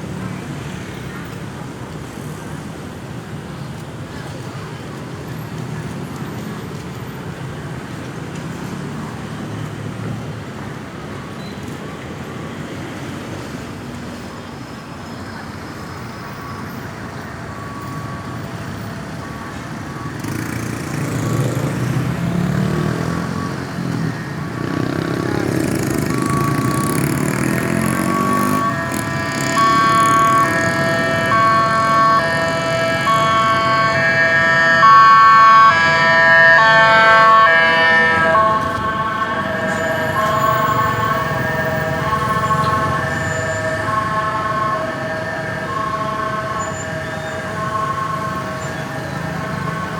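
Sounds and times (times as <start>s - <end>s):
road traffic noise: 0.0s - 49.9s
ambulance siren: 5.8s - 49.9s.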